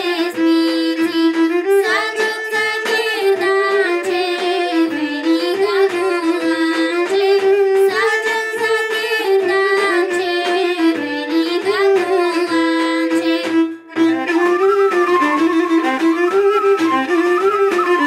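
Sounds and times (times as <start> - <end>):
girl singing folk song: 0.0 - 15.8
folk instrument backing track: 0.0 - 18.0.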